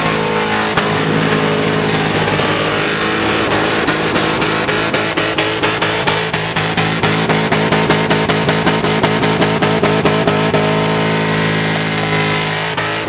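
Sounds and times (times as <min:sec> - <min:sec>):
held guitar chord ringing: 0:00.0 - 0:13.0
rock music: 0:00.0 - 0:13.0.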